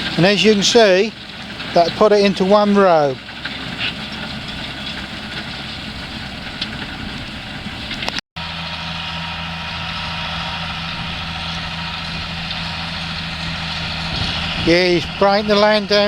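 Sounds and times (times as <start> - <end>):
tractor engine humming: 0.0 - 16.0.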